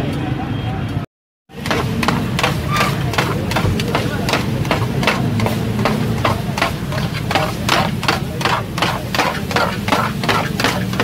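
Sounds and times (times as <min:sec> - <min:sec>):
metal spatula clanking on griddle: 0:01.6 - 0:11.0.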